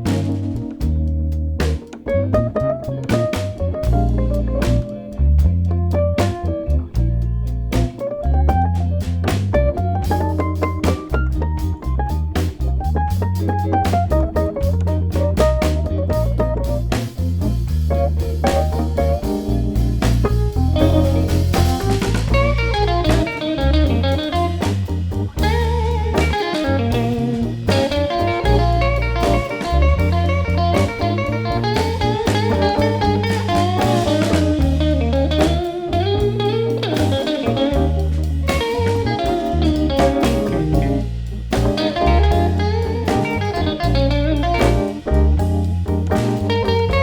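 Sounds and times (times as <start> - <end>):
electric guitar solo: 0.0 - 17.1, 17.9 - 47.0
drums: 0.0 - 47.0
electric bass: 0.0 - 47.0.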